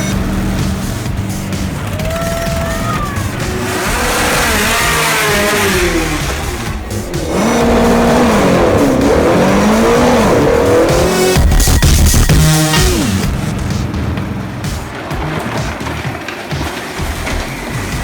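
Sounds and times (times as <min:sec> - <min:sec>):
music: 0:00.0 - 0:18.0
vehicle engine revving: 0:00.0 - 0:18.0.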